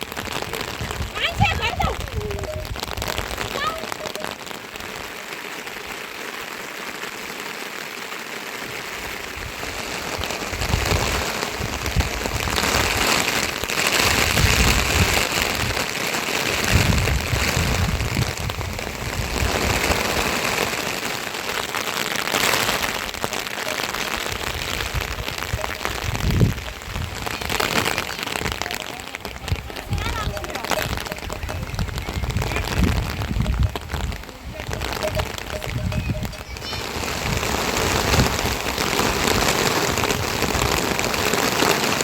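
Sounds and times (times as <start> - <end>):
wind buffeting microphone: 0.0 - 4.3, 9.3 - 20.8, 22.6 - 42.0
rain falling: 0.0 - 42.0.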